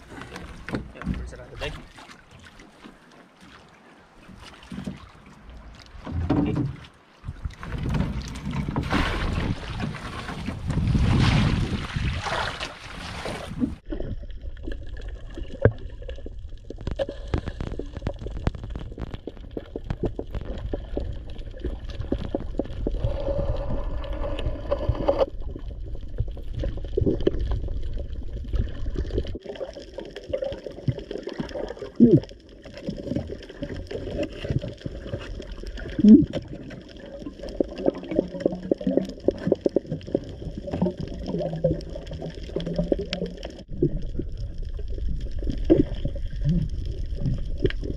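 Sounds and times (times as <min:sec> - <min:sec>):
water gurgling and sloshing: 0:00.0 - 0:47.9.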